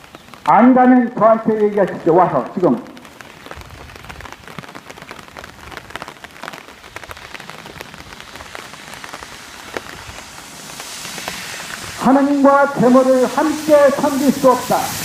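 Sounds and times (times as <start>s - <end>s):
rain hiss: 0.0s - 15.0s
raindrop ticks: 0.0s - 15.0s.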